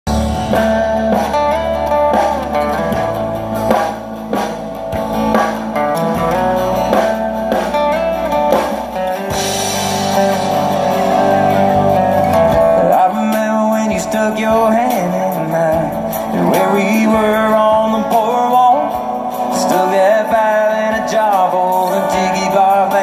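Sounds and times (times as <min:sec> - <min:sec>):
country-rock band playing: 0:00.0 - 0:23.0.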